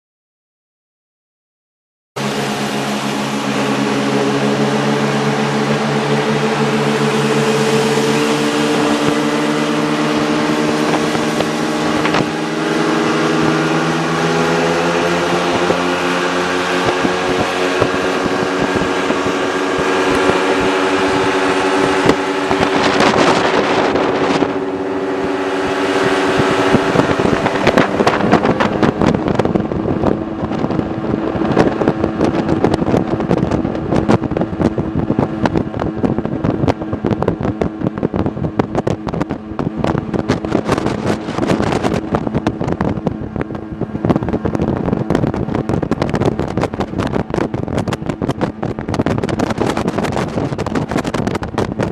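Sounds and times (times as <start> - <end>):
jet boat engine running: 2.2 - 51.9
rapid buffeting thumps: 3.2 - 51.9.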